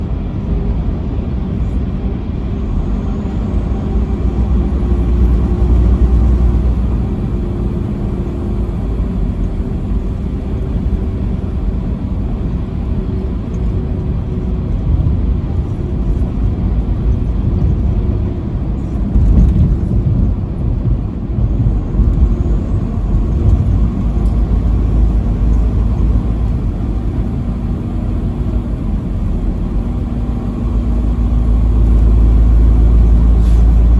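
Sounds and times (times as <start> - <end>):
engine and tyre noise: 0.0 - 33.9.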